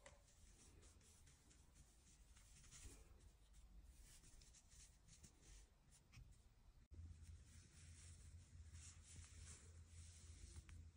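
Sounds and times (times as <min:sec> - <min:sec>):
hands rustling knitted fabric: 0:00.0 - 0:10.9.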